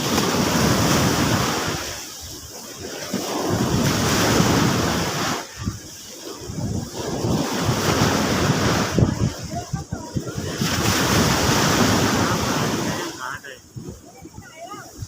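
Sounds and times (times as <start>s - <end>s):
sea waves breaking on shore: 0.0s - 15.0s
wind buffeting microphone: 0.0s - 15.0s.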